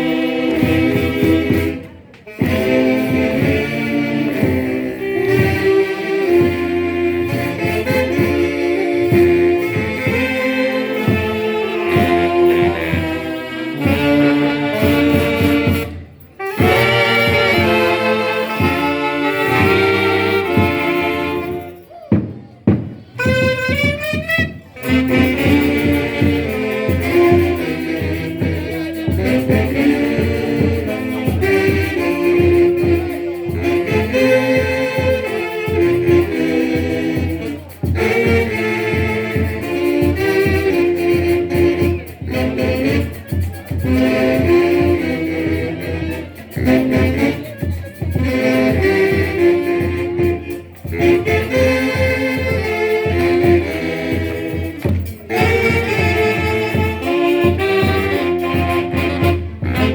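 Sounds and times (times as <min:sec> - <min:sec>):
latin dance band with brass: 0:00.0 - 0:59.9.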